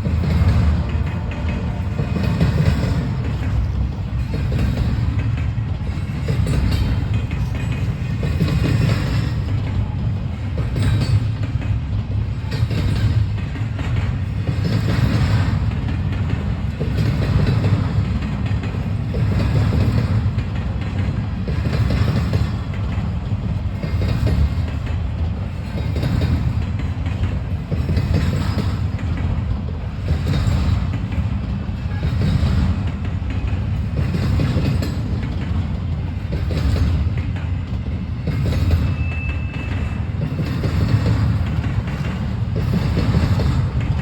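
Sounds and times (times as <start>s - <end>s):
low rumble of wheels on rail: 0.0s - 44.0s.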